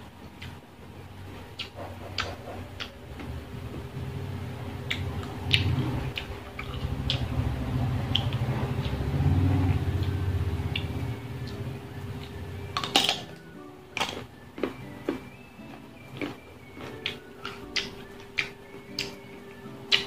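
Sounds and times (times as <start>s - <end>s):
chewing crisp fruit: 0.0s - 0.6s, 1.2s - 20.0s
faint steady hum: 0.0s - 20.0s.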